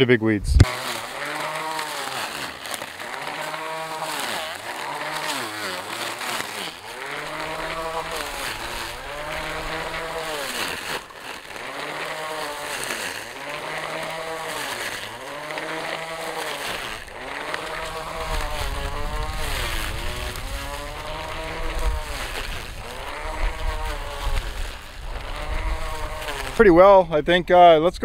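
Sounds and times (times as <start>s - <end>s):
grass trimmer motor whining: 0.6s - 27.7s.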